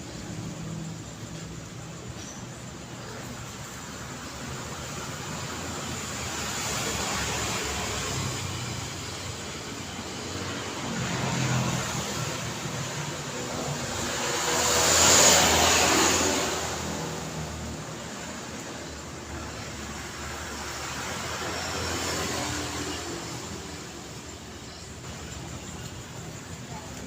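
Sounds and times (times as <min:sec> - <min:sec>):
tyre and engine noise: 0:00.0 - 0:27.0
vehicles passing: 0:00.0 - 0:27.0.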